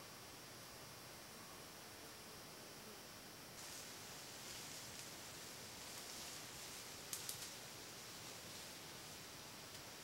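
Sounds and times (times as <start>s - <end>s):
faint hiss of woods: 0.0s - 10.0s.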